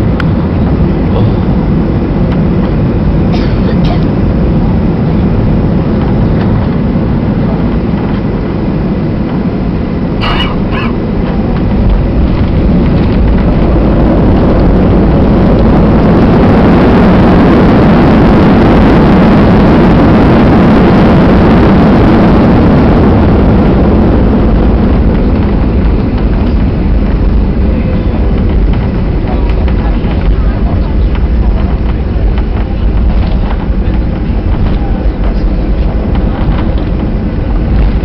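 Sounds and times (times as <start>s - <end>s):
jet engine and airflow roar in cabin: 0.0s - 38.0s.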